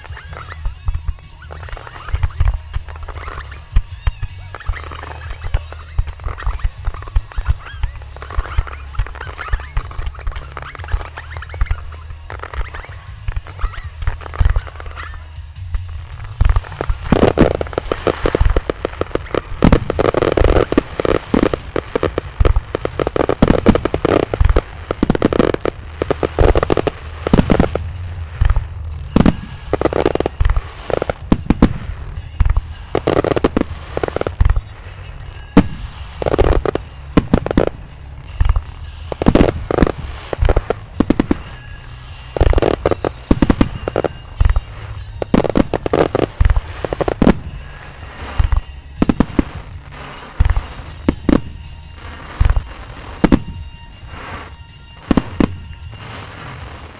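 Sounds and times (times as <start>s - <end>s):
fireworks bursting with loud bangs: 0.0s - 56.9s
fireworks crackling: 0.0s - 56.9s.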